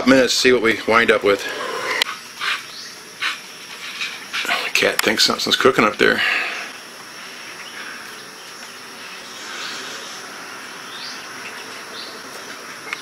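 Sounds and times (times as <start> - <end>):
insects droning: 0.0 - 13.0
insect chirps: 0.1 - 13.0
gas burner hissing: 0.4 - 13.0.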